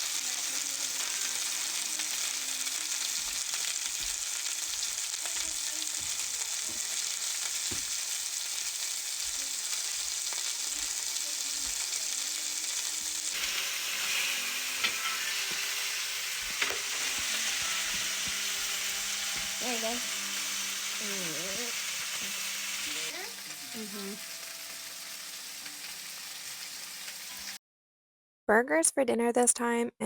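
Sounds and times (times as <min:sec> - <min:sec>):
patties sizzling in a frying pan: 0:00.0 - 0:27.6.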